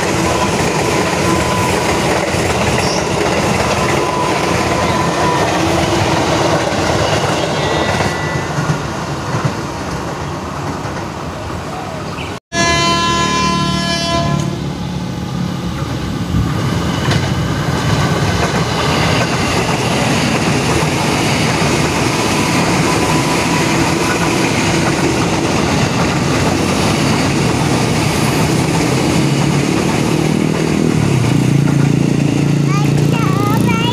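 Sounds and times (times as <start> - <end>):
train wheels rumbling on rails: 0.0 - 12.3, 13.0 - 33.9.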